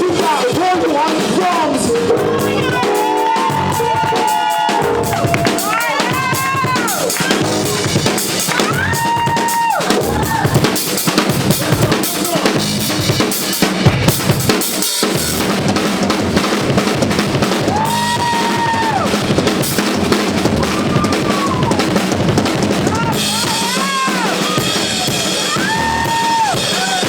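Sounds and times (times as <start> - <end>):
live band playing: 0.0 - 27.0
bass drum and snare hits: 3.5 - 27.0.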